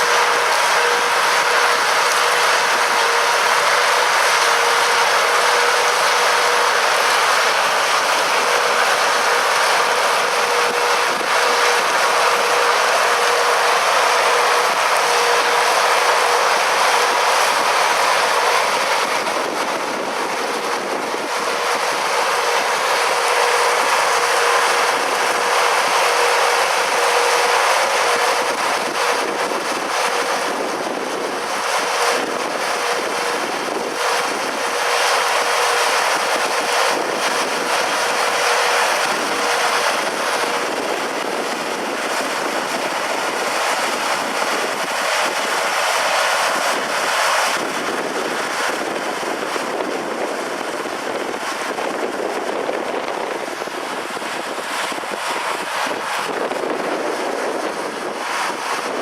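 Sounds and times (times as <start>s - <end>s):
farm machinery rushing and whining: 0.0s - 59.0s.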